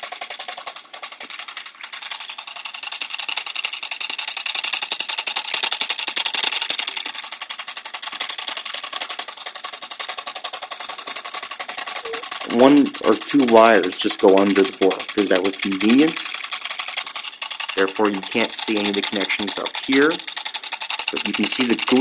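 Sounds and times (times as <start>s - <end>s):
motor ticking buzz: 0.0s - 22.0s.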